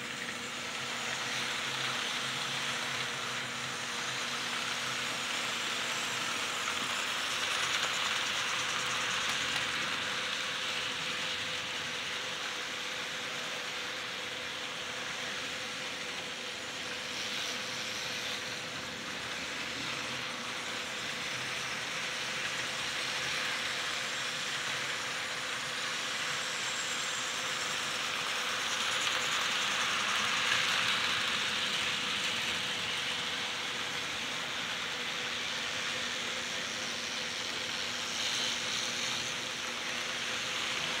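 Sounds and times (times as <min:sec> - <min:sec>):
model locomotive whirring: 0:00.0 - 0:41.0
rolling rattle of train cars: 0:00.0 - 0:41.0.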